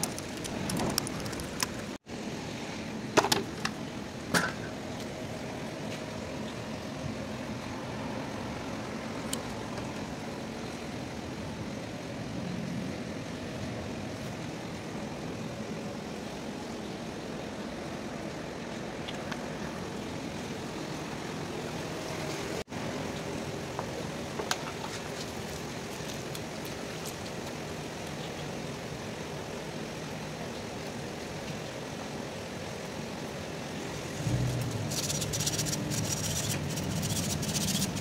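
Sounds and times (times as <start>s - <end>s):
steady background noise: 0.0s - 38.0s.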